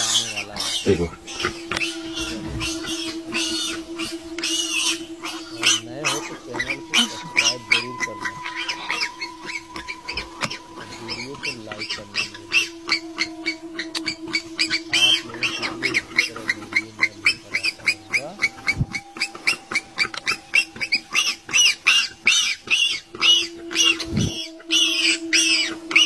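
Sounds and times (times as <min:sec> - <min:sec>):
high arching animal calls: 0:00.0 - 0:26.0
steady low hum: 0:00.0 - 0:26.0.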